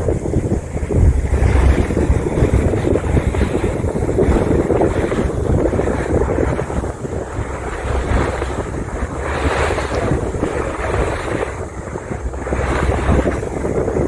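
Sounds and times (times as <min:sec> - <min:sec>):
boat motor rumble: 0:00.0 - 0:14.0
water rushing past hull: 0:00.0 - 0:14.0
wind buffeting microphone: 0:00.0 - 0:14.0.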